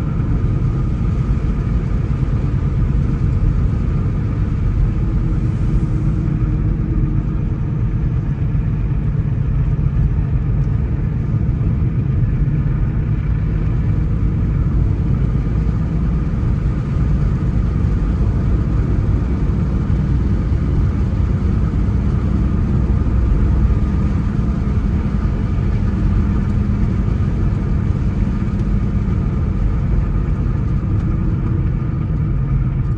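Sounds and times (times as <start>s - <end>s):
car engine and tyre rumble: 0.0s - 32.9s.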